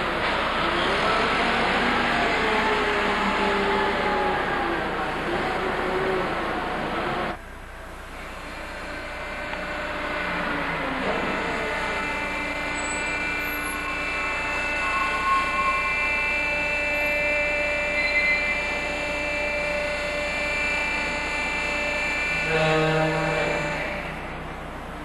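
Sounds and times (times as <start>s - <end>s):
electric pump humming with whine: 0.0s - 25.0s.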